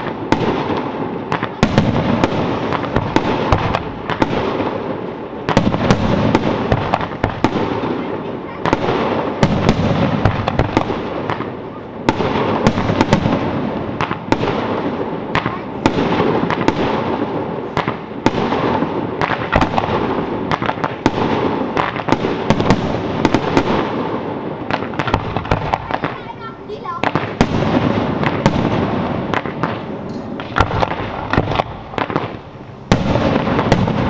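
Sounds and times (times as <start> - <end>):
fireworks bangs: 0.0 - 34.0
fireworks crackle: 0.0 - 34.0.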